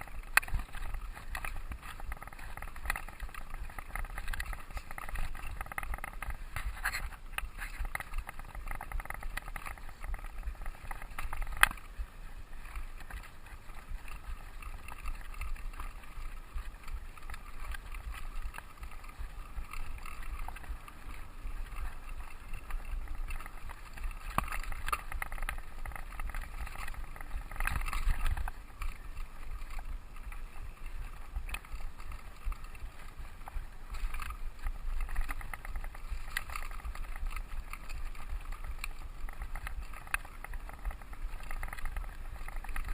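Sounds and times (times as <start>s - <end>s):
mountain bike rolling on dirt trail: 0.0s - 42.9s
rattle of small clicks: 0.0s - 42.9s.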